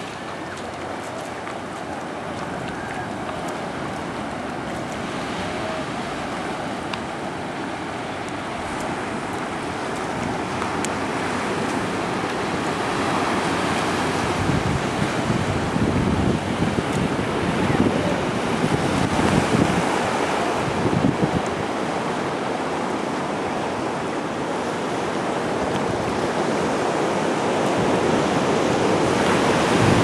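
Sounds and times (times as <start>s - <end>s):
ocean surf on beach: 0.0s - 30.0s
wind buffeting microphone: 0.0s - 30.0s.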